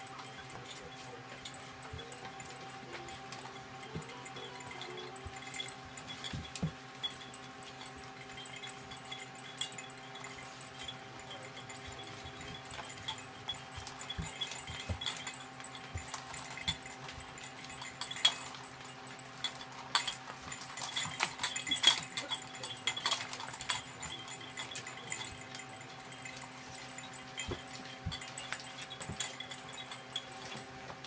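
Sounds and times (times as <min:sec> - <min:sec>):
puppies scuffling clicks and taps: 0:00.0 - 0:31.0
steady low hum: 0:00.0 - 0:31.0.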